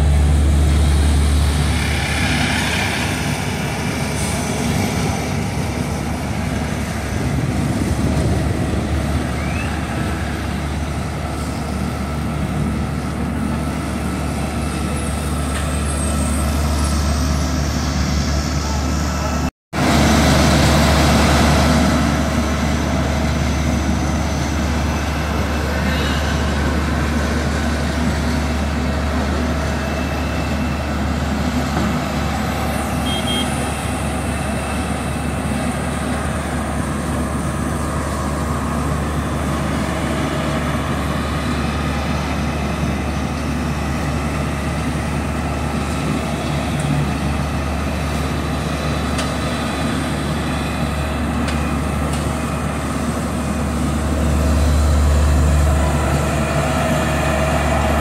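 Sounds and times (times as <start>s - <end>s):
diesel paver engine droning: 0.0s - 58.0s
dump truck engine: 0.0s - 58.0s.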